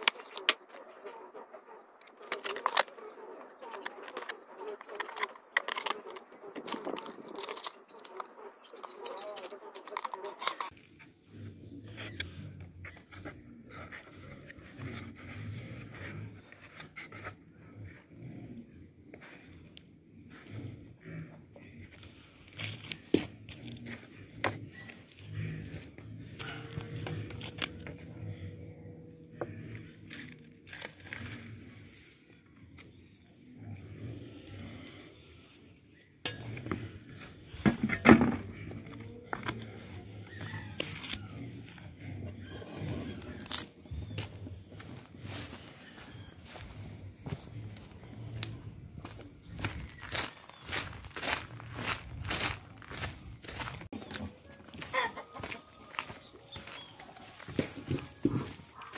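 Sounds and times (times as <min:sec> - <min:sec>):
animal low sounds: 0:00.0 - 0:58.9.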